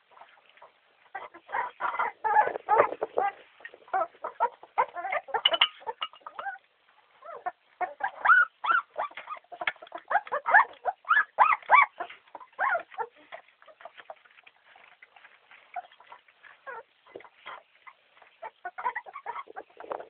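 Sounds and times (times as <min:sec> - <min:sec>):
puppies yelping and whimpering: 0:00.1 - 0:20.0.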